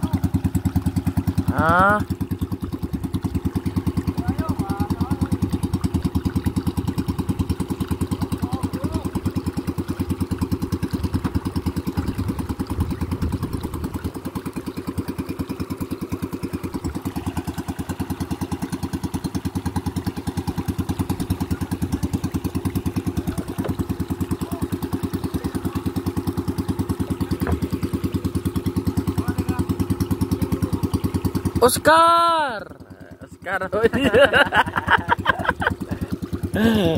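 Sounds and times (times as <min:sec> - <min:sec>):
boat engine running: 0:00.0 - 0:36.9.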